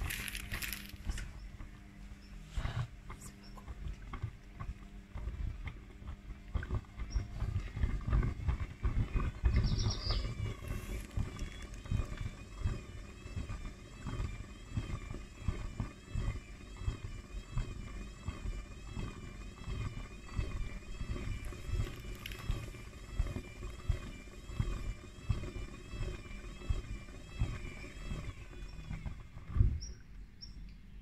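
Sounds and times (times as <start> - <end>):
washing machine water sloshing: 2.9 - 30.0.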